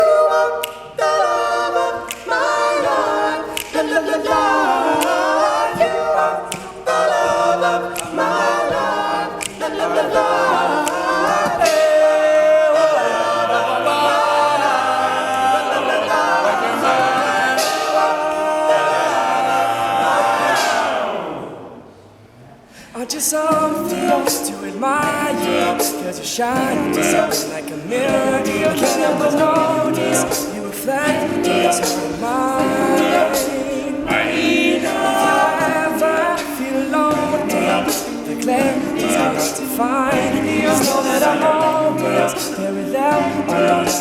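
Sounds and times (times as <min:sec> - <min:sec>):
male group singing harmony: 0:00.0 - 0:21.8, 0:22.9 - 0:44.0
vocal percussion hits: 0:00.0 - 0:44.0.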